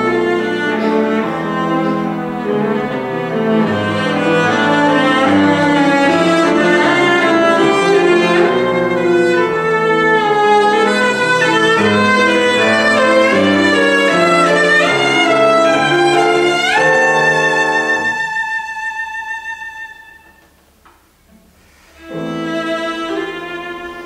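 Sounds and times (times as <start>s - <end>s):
cello playing: 0.0s - 20.6s, 21.3s - 24.0s
piano accompaniment: 0.0s - 24.0s.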